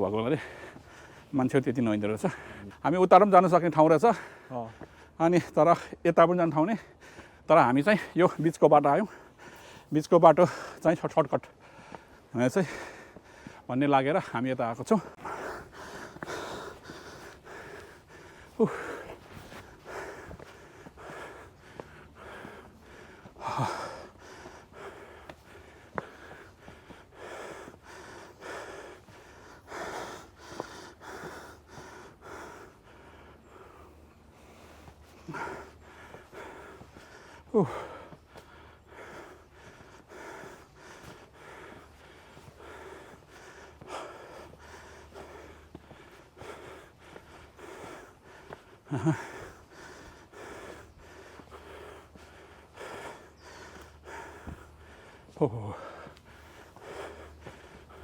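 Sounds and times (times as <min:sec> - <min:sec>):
heavy rhythmic breathing: 0:00.0 - 0:58.0
person panting heavily: 0:00.0 - 0:58.0
faint footsteps: 0:06.7 - 0:58.0.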